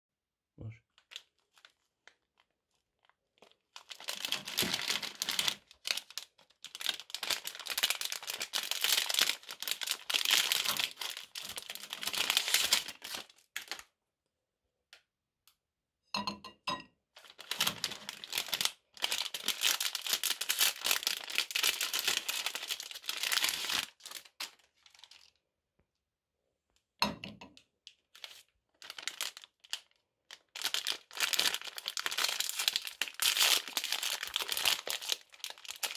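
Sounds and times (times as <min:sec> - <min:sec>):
plastic wrappers crinkling: 0:00.9 - 0:13.9, 0:17.2 - 0:25.4, 0:27.9 - 0:35.9.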